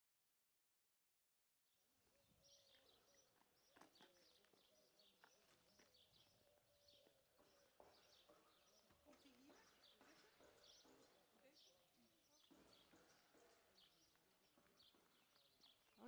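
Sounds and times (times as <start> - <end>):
faint birds chirping: 1.8 - 16.0.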